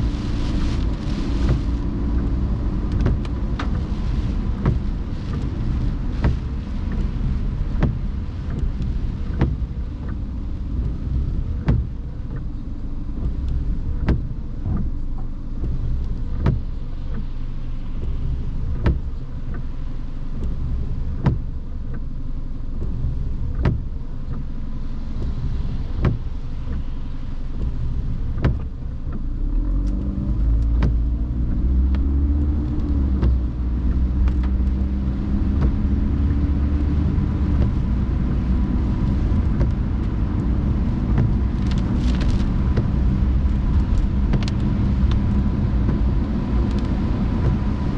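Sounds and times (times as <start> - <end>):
car engine and road rumble: 0.0 - 47.9
rain: 0.0 - 47.9.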